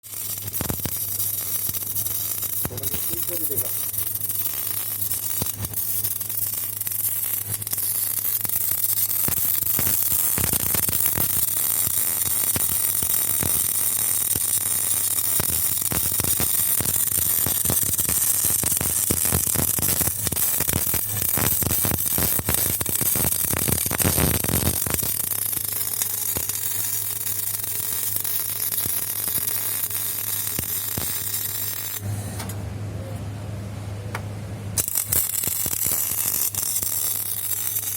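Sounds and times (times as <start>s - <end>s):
welding arc sizzling and crackling: 0.0s - 32.5s, 34.8s - 37.9s
steady electrical hum: 0.0s - 37.9s.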